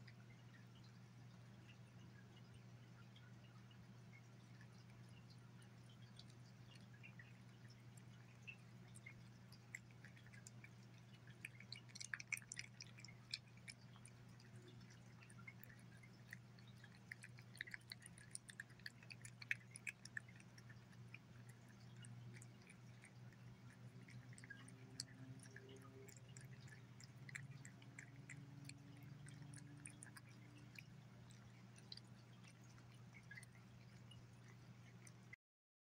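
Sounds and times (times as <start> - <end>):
cat licking and chewing food: 0.0 - 35.4
steady low hum: 0.0 - 35.4.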